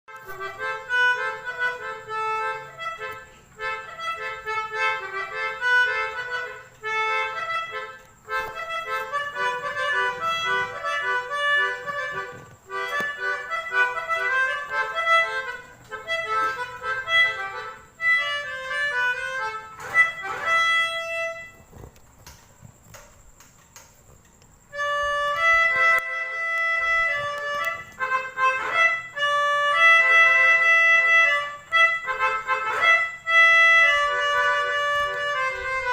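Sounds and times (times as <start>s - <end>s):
motorcycle melody horn: 0.2s - 21.7s, 24.7s - 35.9s.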